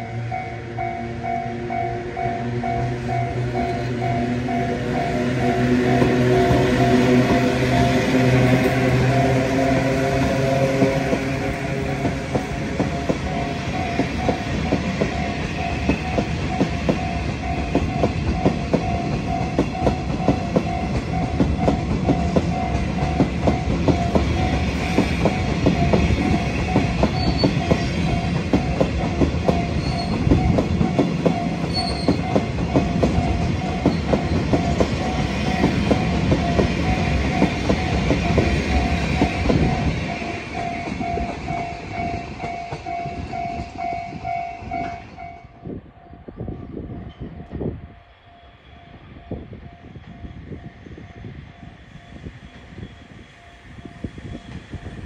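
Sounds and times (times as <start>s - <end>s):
crossing warning bell ringing: 0.0s - 54.4s.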